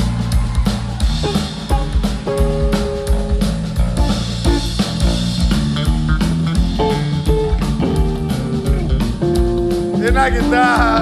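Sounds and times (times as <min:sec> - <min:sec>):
drum kit beat: 0:00.0 - 0:11.0
electric bass: 0:00.0 - 0:11.0
electric guitar: 0:00.1 - 0:11.0.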